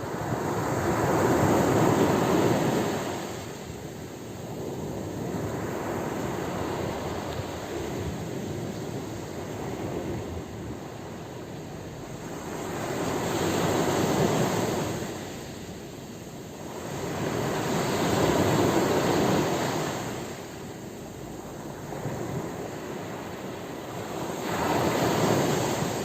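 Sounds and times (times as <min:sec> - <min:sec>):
sea waves breaking: 0:04.4 - 0:26.0.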